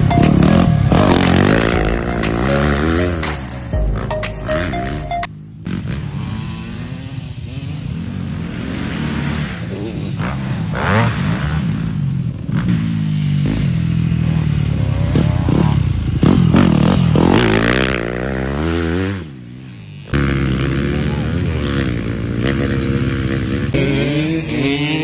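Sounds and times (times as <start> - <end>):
motocross bike engine revving: 0.0 - 3.5, 5.3 - 25.0.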